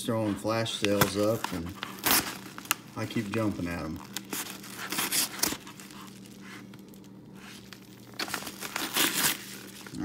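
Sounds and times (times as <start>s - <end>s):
packaging tearing and crinkling: 0.3s - 10.0s.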